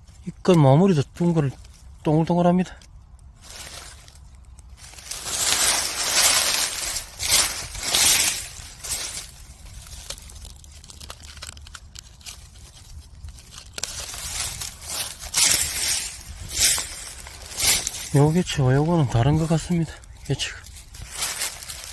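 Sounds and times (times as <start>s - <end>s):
rustling and crackling: 0.0s - 21.9s.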